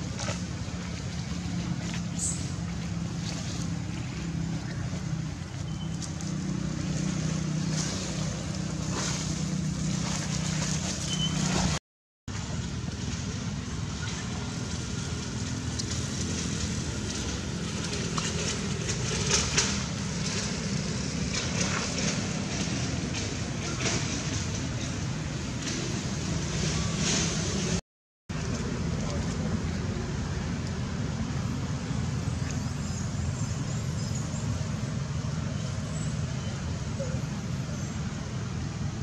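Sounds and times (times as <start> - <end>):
outdoor background noise with hum: 0.0 - 39.0.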